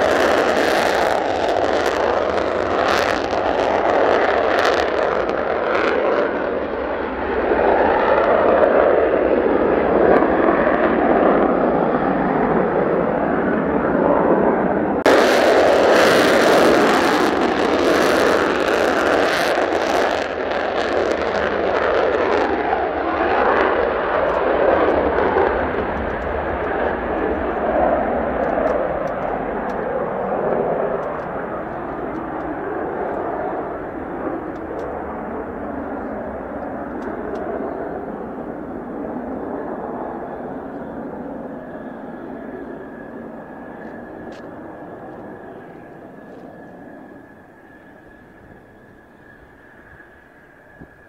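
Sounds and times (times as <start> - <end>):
jet roar with crackling: 0.0 - 51.0.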